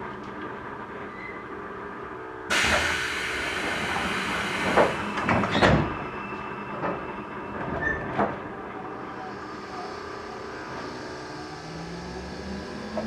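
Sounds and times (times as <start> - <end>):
quiet hum of stationary railcar: 0.0 - 13.0.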